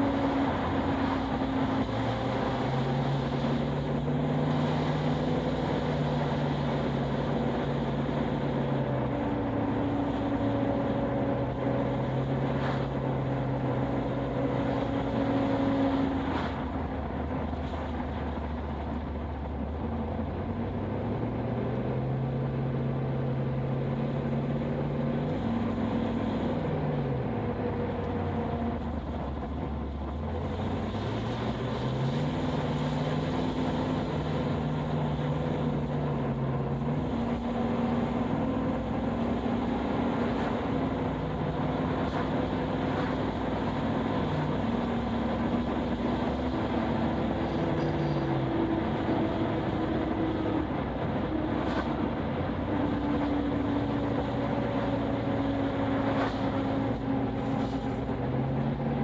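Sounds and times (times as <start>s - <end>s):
car engine from inside cabin: 0.0s - 59.0s
road and wind noise: 0.0s - 59.0s.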